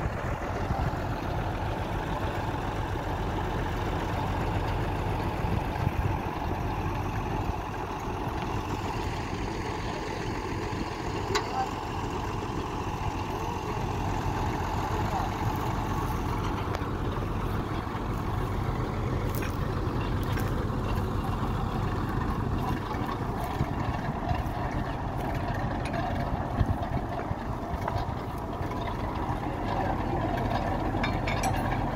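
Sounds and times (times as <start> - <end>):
drilling rig engine running: 0.0 - 31.9.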